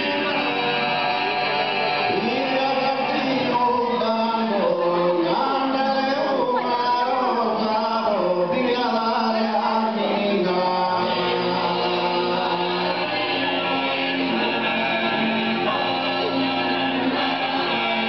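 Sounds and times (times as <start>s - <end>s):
male voices singing unaccompanied: 0.0s - 18.0s.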